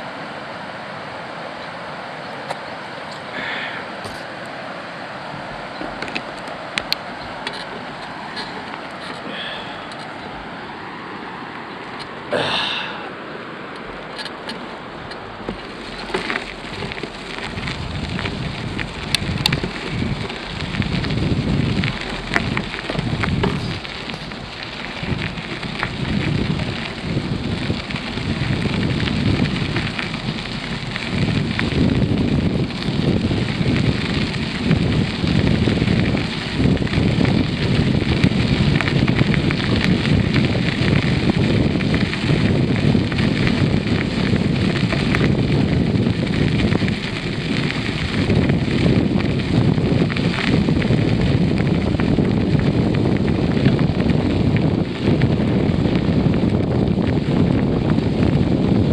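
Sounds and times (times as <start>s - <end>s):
wind buffeting microphone: 2.5s - 58.9s.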